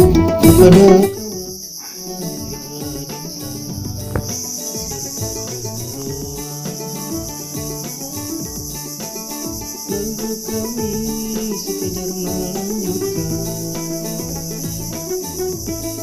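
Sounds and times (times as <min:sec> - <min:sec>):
crickets chirring: 0:00.0 - 0:16.0
instrumental music with beat: 0:00.0 - 0:16.0.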